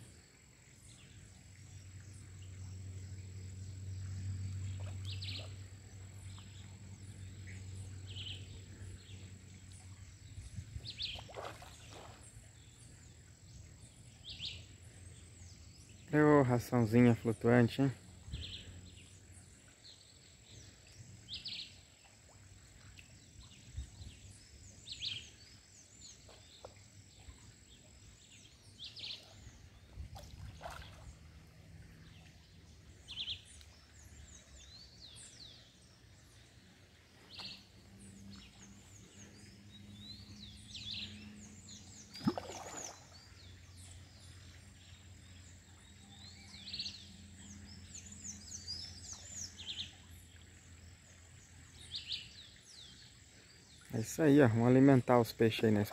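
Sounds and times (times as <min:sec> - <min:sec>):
birds calling: 0:03.9 - 0:21.9, 0:22.8 - 0:50.6.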